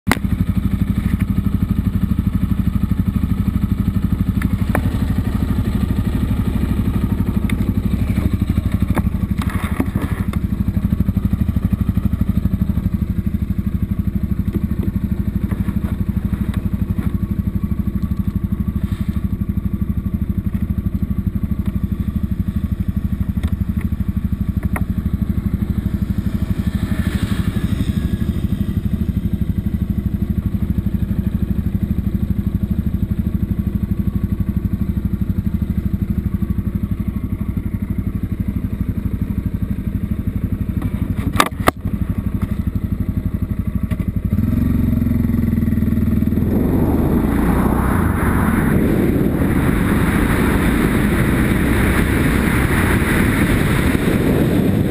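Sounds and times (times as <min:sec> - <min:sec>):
motorcycle engine running: 0:00.1 - 0:54.9.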